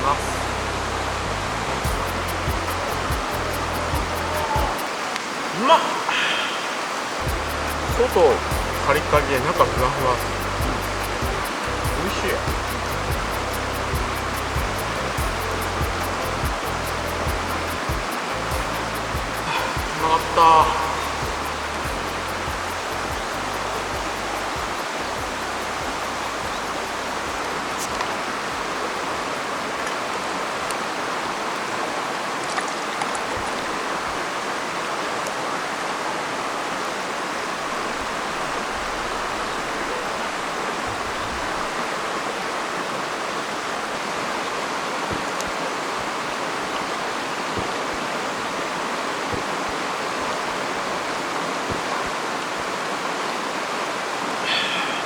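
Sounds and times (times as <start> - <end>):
stream rushing water: 0.0 - 55.0.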